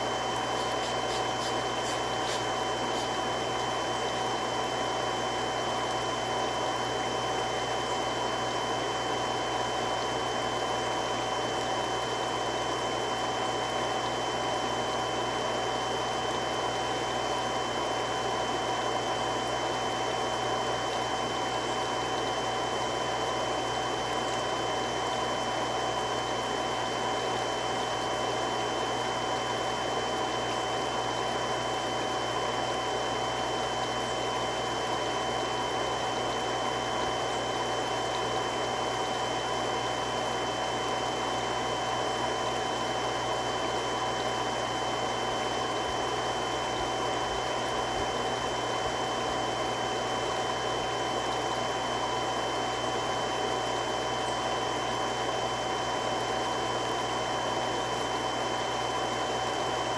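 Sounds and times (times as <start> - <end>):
water pump running: 0.0 - 59.9.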